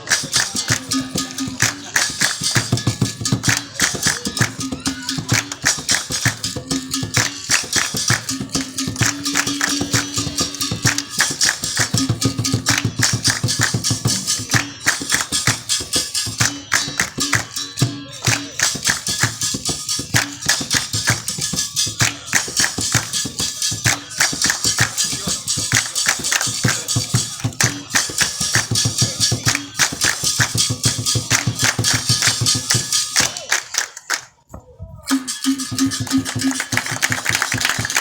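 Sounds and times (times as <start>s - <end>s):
shaker rattling: 0.0s - 33.6s, 35.1s - 38.0s
percussion beat: 0.0s - 38.0s.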